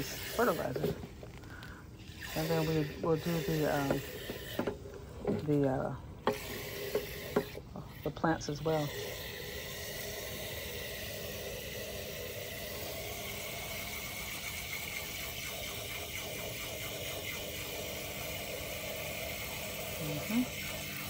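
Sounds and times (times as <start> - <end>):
water spraying into metal can: 0.0 - 21.0.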